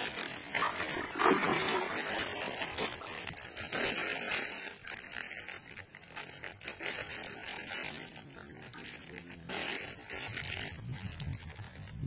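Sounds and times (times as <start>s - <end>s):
fish splashing in water: 0.0s - 11.9s.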